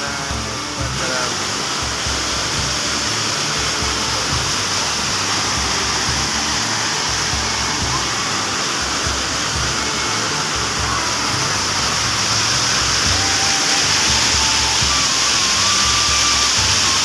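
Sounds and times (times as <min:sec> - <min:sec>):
waterfall splashing over rocks: 0:00.0 - 0:17.0.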